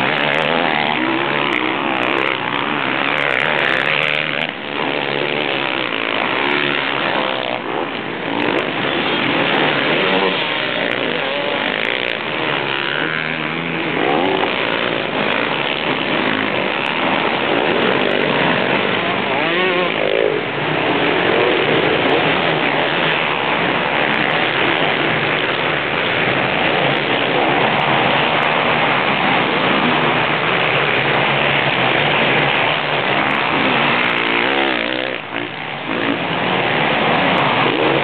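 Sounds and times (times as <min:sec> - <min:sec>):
motocross bikes racing: 0:00.0 - 0:38.0
motorbike revving: 0:00.0 - 0:38.0.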